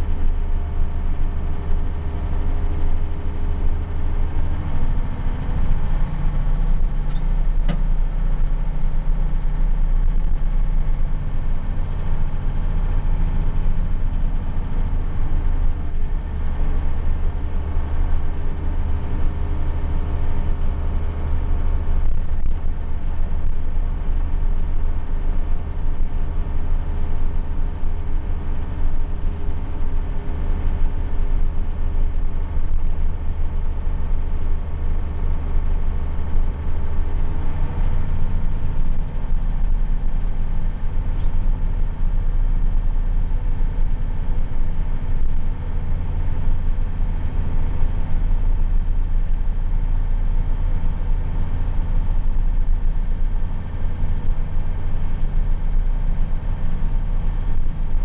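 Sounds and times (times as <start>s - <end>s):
diesel engine drone under load: 0.0s - 58.0s.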